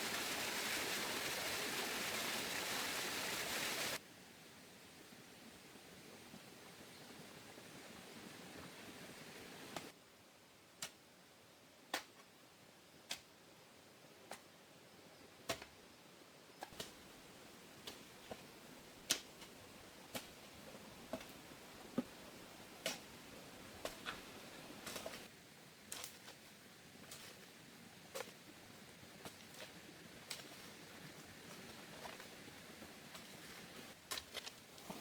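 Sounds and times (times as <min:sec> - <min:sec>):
faint hiss: 0:00.0 - 0:35.0.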